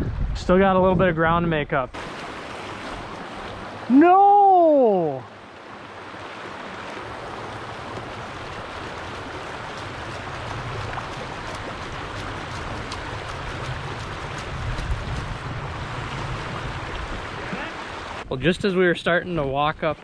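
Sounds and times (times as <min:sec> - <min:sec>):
stream water rushing: 0:02.0 - 0:18.3.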